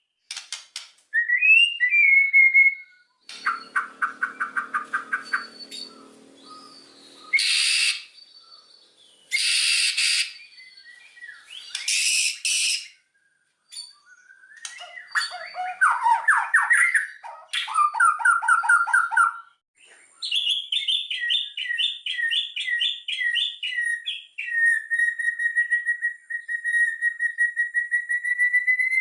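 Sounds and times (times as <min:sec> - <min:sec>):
songbird singing: 0:01.2 - 0:29.0.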